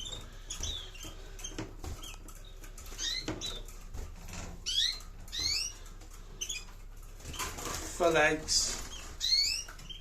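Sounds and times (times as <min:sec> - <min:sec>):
canaries chirping: 0:00.0 - 0:10.0.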